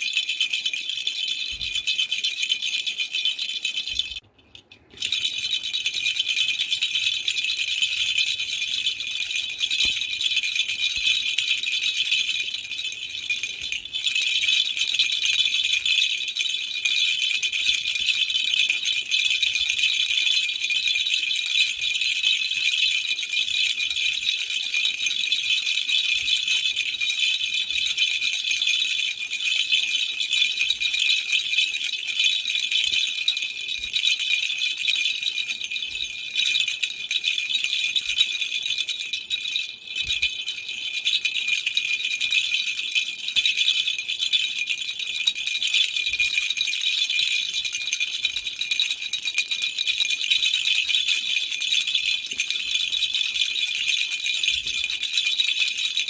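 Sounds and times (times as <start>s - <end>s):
baby rattle toy shaken: 0.0s - 56.0s.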